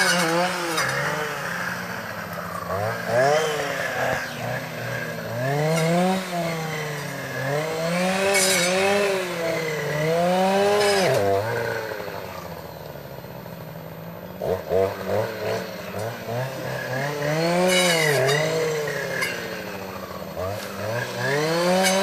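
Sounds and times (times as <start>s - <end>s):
brush cutter engine revving: 0.0s - 22.0s.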